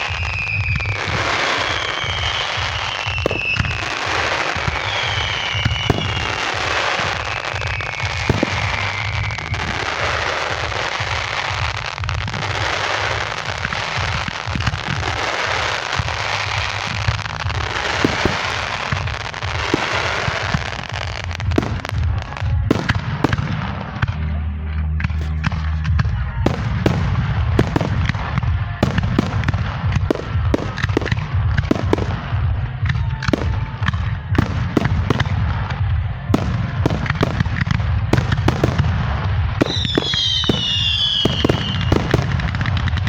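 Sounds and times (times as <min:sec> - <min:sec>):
fireworks crackling and popping: 0:00.0 - 0:43.0
whistling fireworks: 0:00.0 - 0:43.0.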